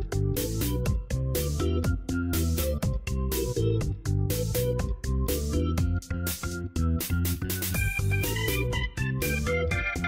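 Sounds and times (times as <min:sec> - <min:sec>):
bass line: 0:00.0 - 0:10.0.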